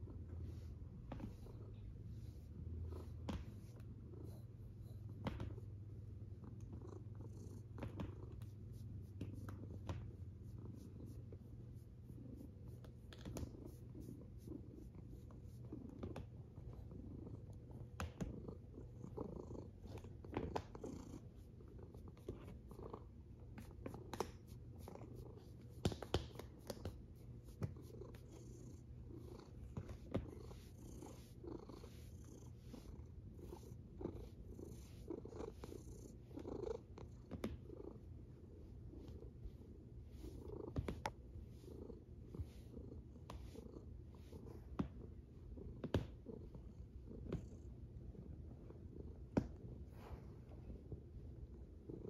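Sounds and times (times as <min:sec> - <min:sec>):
cat purring: 0:00.0 - 0:52.0
hand rubbing fur: 0:00.2 - 0:06.2, 0:07.6 - 0:22.8, 0:23.5 - 0:45.0.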